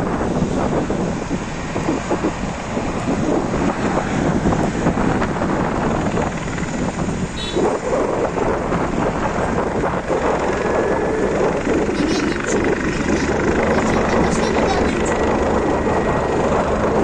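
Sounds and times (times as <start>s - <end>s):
motorway traffic: 0.0s - 17.0s
wind buffeting microphone: 0.0s - 17.0s.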